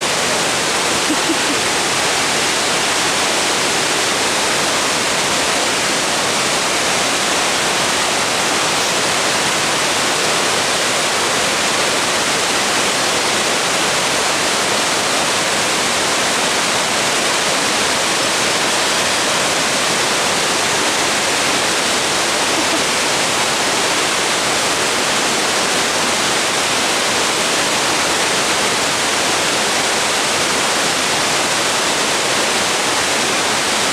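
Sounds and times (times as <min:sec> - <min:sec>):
river rushing over rocks: 0:00.0 - 0:33.9.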